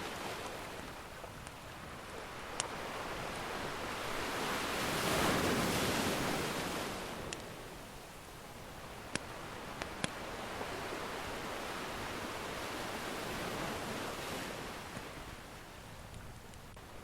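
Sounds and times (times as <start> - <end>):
ocean surf washing in: 0.0 - 15.7.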